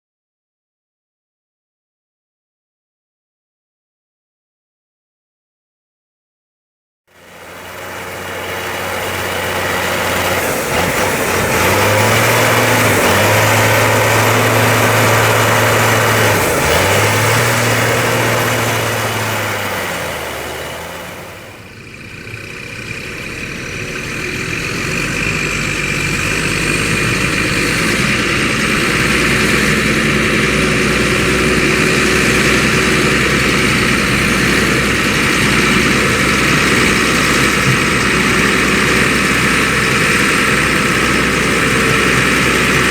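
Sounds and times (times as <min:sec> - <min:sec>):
harvester machinery running: 0:07.1 - 0:42.9
tractor engine under load: 0:07.1 - 0:42.9.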